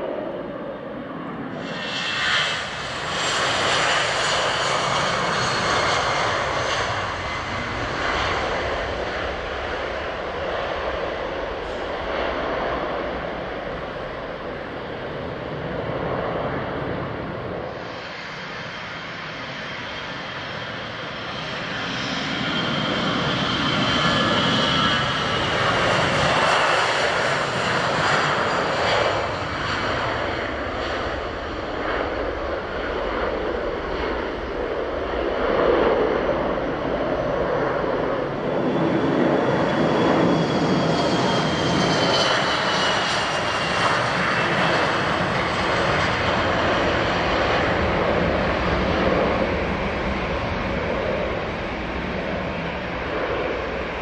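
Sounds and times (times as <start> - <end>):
jet engines with turbine whine: 0.0 - 54.0.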